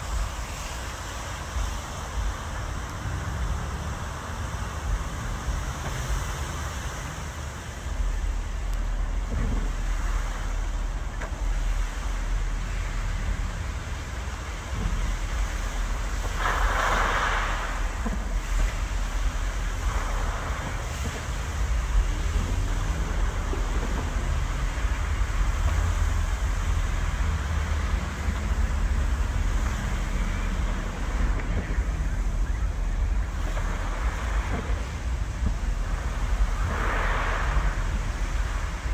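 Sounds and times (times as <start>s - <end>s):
fountain water rushing: 0.0s - 38.9s
wind rumbling on microphone: 0.0s - 38.9s.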